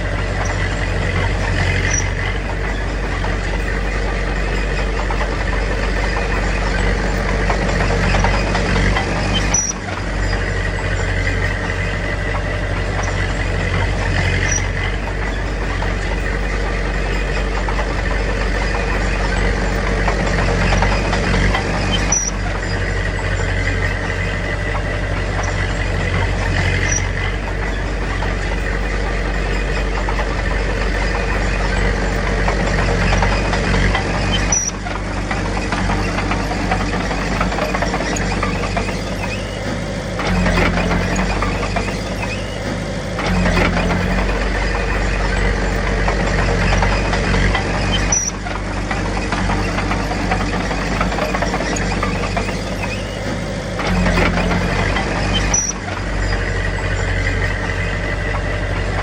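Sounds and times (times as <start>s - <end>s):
diesel earthmoving machinery droning: 0.0s - 59.0s.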